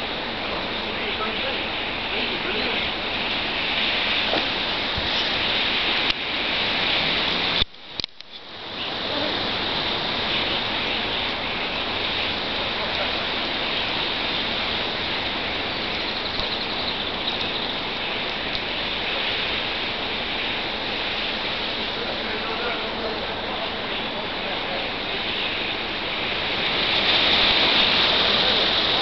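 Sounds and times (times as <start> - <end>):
flock of birds rushing in flight: 0.0 - 7.6, 8.6 - 29.0.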